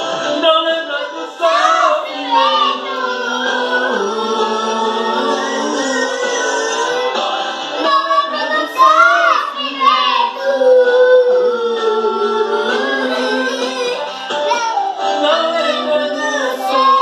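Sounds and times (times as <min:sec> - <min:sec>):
backing music: 0:00.0 - 0:17.0
children singing gospel song: 0:00.0 - 0:17.0.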